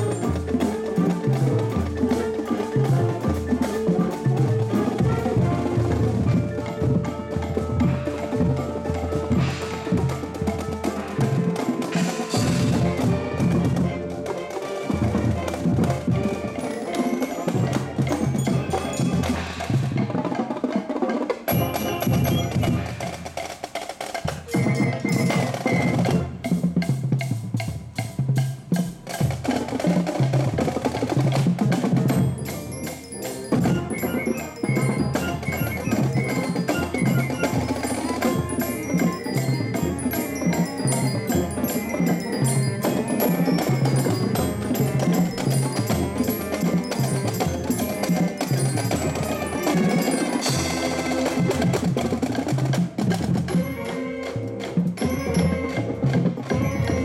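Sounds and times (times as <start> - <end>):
mallet percussion ringing: 0.0 - 20.2, 21.5 - 23.2, 24.3 - 27.8, 32.0 - 52.2, 53.4 - 57.0
drum strokes: 0.0 - 57.0
marching band playing: 0.0 - 57.0.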